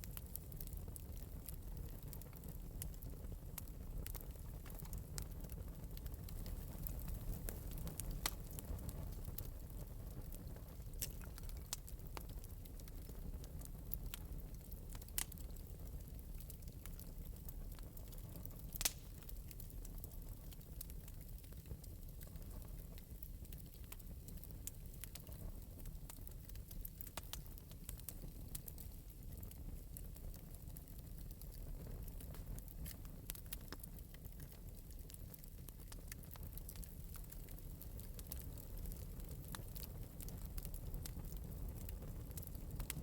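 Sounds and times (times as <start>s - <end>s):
fire popping: 0.0s - 43.0s
low rumble of fire: 0.0s - 43.0s.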